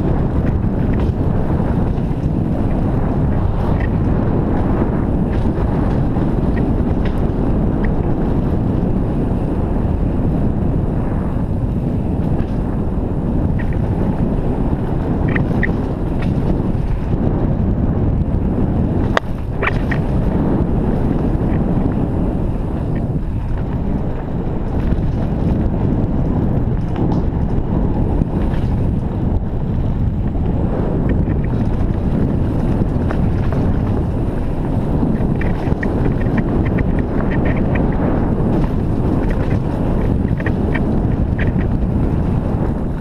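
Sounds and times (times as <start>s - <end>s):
tyres rumbling over dirt trail: 0.0s - 43.0s
wind buffeting microphone: 0.0s - 43.0s.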